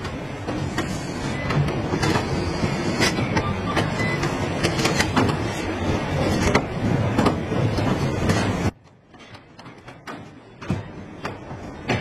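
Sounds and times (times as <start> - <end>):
steady machinery hum: 0.0 - 12.0.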